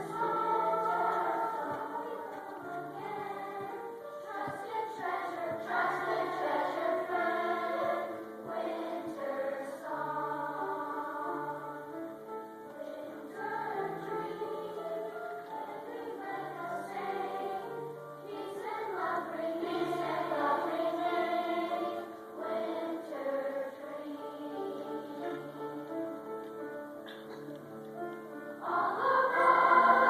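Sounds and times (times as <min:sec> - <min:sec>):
choir singing sustained notes: 0:00.0 - 0:26.5, 0:28.3 - 0:30.0.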